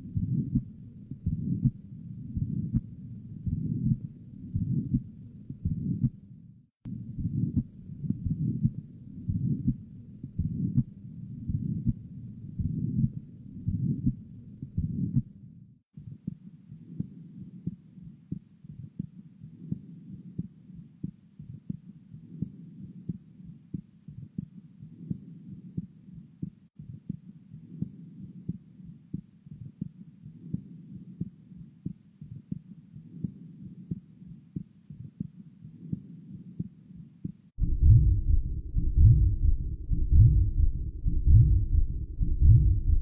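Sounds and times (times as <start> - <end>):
heartbeat: 0.0 - 6.2, 6.8 - 15.4, 16.0 - 43.0.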